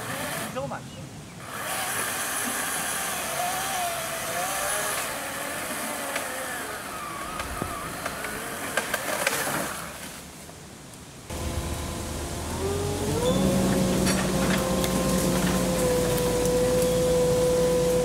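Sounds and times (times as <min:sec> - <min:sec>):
chainsaw cutting log: 0:00.0 - 0:00.7, 0:01.4 - 0:10.1, 0:11.3 - 0:18.0.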